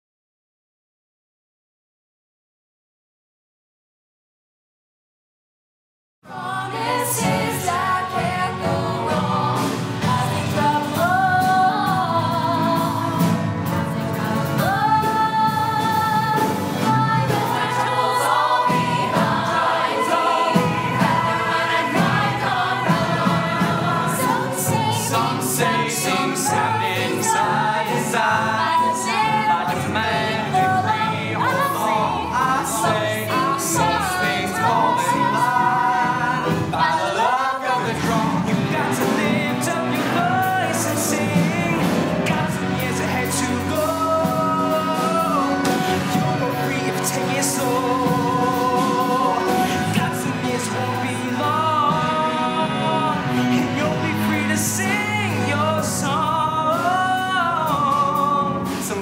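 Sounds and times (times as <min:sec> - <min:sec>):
musical accompaniment: 0:06.3 - 0:59.0
ensemble singing: 0:06.4 - 0:59.0.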